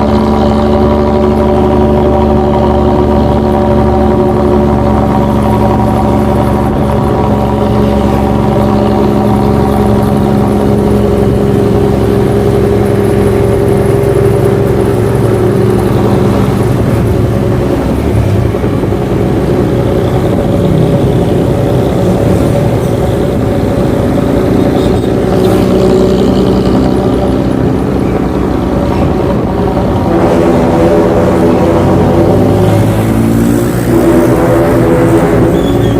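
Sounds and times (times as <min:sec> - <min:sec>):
bus engine droning: 0:00.0 - 0:35.9.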